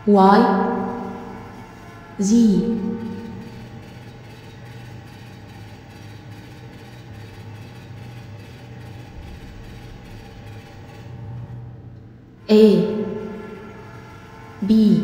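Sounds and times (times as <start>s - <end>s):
train engine low rumble: 0.0s - 15.0s.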